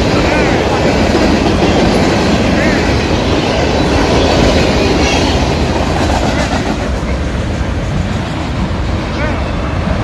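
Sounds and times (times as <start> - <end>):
freight train rolling past: 0.0 - 10.0
wheels clattering on rail: 0.0 - 10.0.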